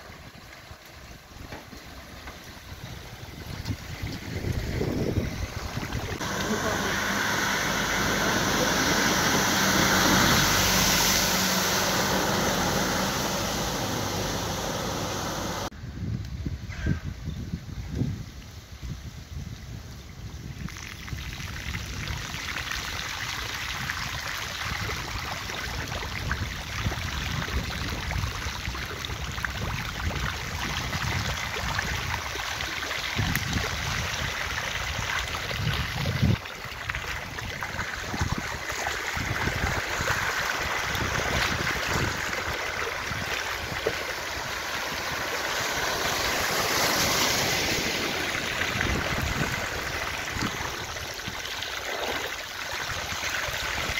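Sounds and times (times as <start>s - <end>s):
floodwater rushing: 0.0s - 15.7s, 20.8s - 53.9s.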